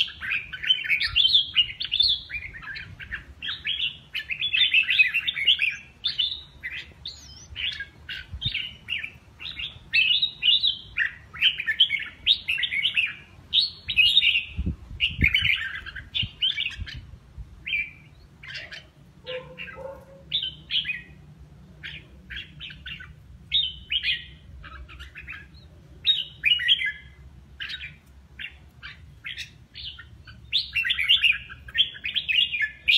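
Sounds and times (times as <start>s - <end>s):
bird singing warbled phrases: 0.0s - 32.9s.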